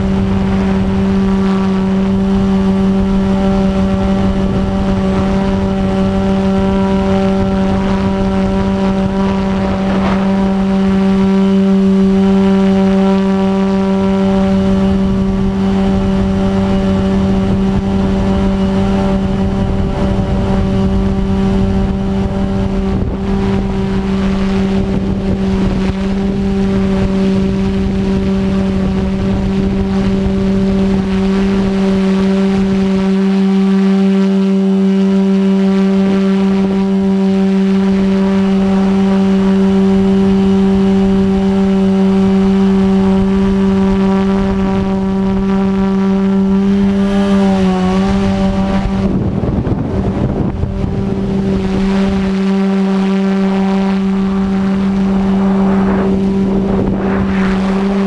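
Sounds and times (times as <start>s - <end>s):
quadcopter rotors droning: 0.0s - 58.0s
wind rumbling on microphone: 0.0s - 58.0s.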